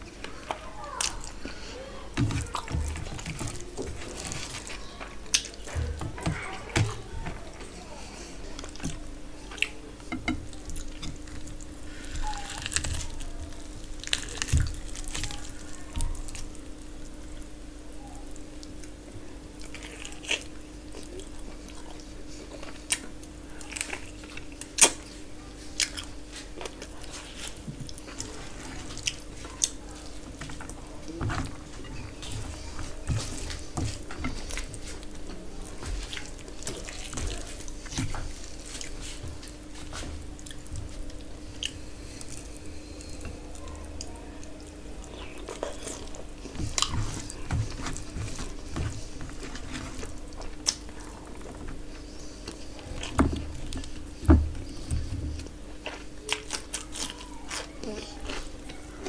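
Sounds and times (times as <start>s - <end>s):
chewing: 0.0s - 59.0s
steady hum: 0.0s - 59.0s.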